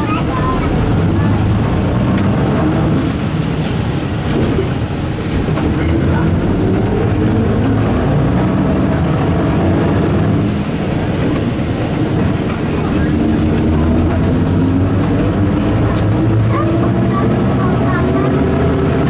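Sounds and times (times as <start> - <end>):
body and road rattle: 0.0 - 19.0
bus diesel engine rumble: 0.0 - 19.0.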